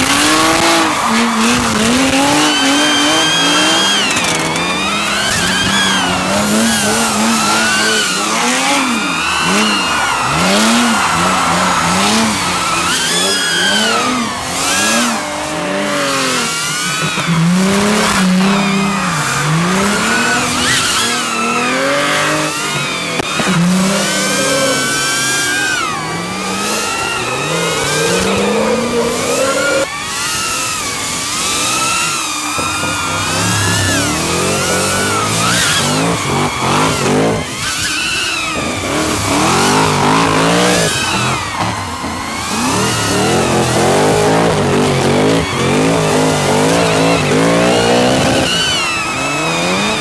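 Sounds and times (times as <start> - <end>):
car engines revving: 0.0 - 50.0
tyre squeal: 0.0 - 50.0.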